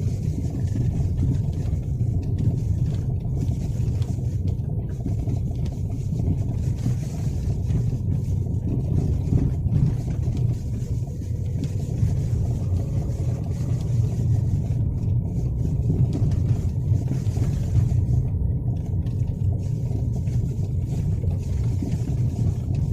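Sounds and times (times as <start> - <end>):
car road rumble: 0.0 - 22.9.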